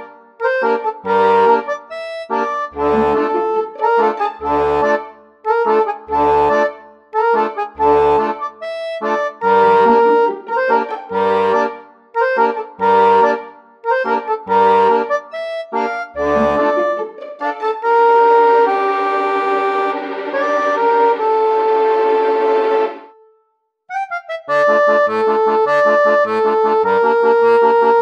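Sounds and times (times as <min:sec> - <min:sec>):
instrumental music: 0:00.0 - 0:28.0.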